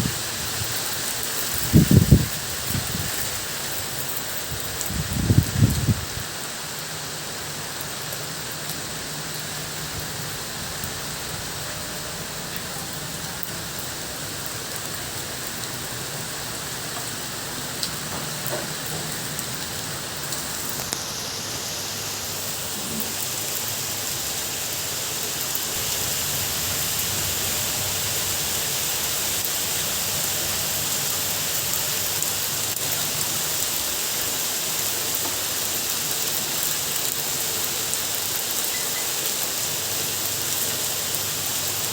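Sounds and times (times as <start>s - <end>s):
rain pattering on surfaces: 0.0s - 41.9s.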